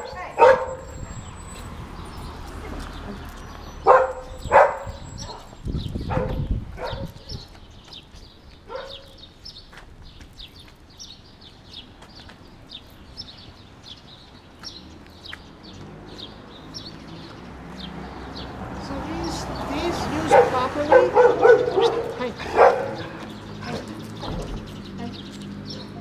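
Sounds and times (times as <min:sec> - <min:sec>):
small birds chirping: 0:00.0 - 0:26.0
street noise: 0:00.0 - 0:26.0.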